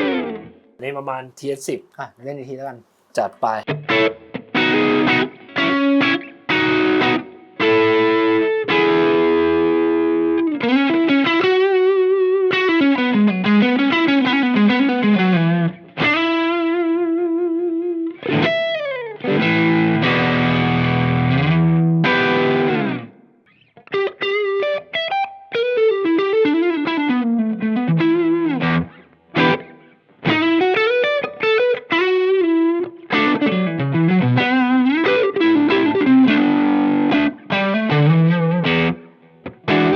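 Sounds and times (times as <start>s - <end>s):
overdriven electric guitar: 0.0s - 0.8s, 3.6s - 39.9s.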